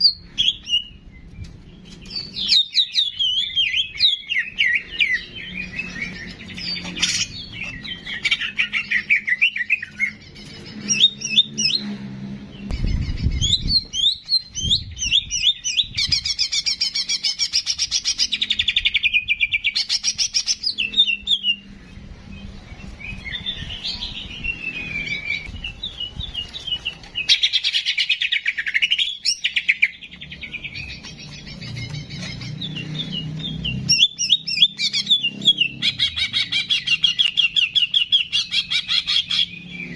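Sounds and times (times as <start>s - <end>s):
caged songbird singing: 0.0s - 39.9s.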